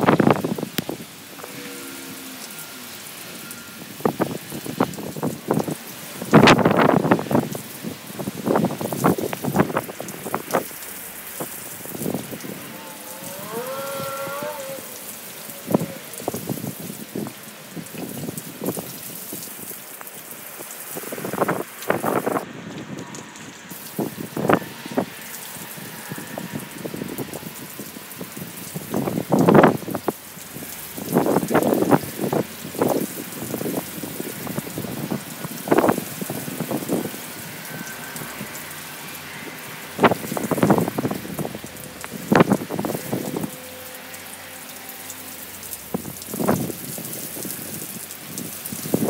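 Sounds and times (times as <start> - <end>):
heavy raindrops striking: 0.0 - 49.0
rain falling: 0.0 - 49.0.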